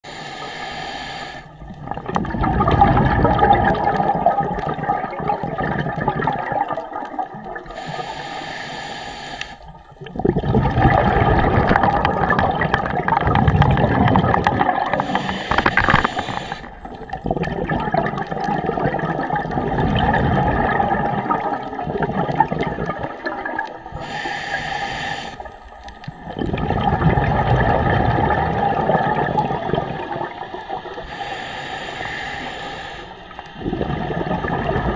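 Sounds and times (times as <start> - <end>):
underwater exhaled bubbles: 1.2 - 8.6, 9.4 - 34.9.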